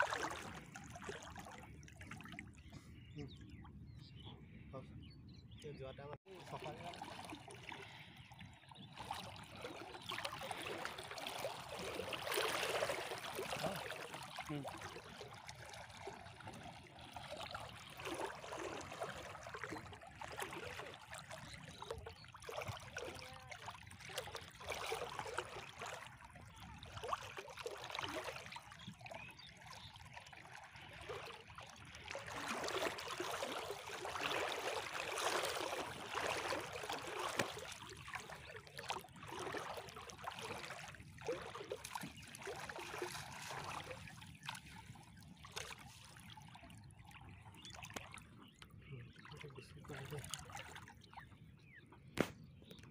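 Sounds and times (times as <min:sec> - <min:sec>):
water splashing and trickling: 0:00.0 - 0:04.5, 0:05.6 - 0:52.9
sloshing from wading: 0:00.0 - 0:04.7, 0:05.5 - 0:52.9.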